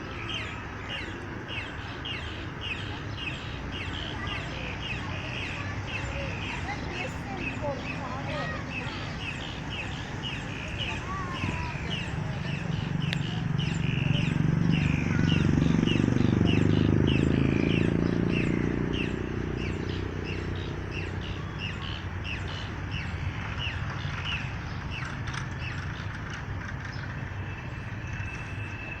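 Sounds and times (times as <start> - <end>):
bird chirping: 0.2 - 29.0
passing vehicle engine: 3.4 - 29.0.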